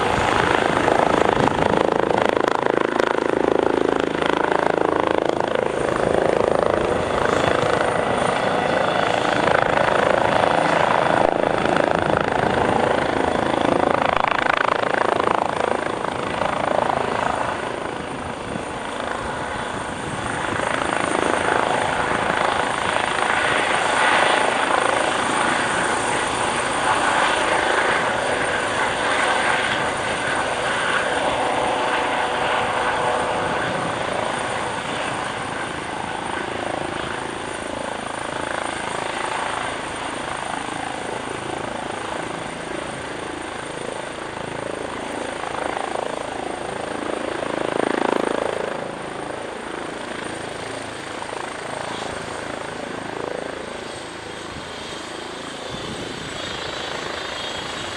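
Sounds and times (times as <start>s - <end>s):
helicopter rotor and turbine noise: 0.0s - 57.9s.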